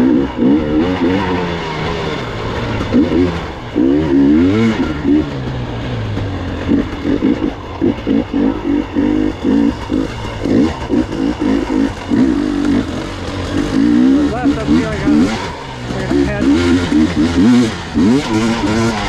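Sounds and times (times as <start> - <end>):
motorcycle engine throttle blips: 0.0 - 19.0.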